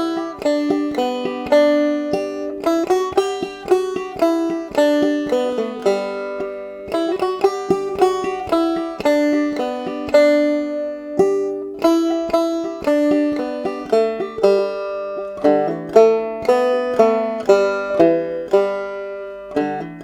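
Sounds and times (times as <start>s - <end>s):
banjo plucked notes: 0.0s - 20.0s.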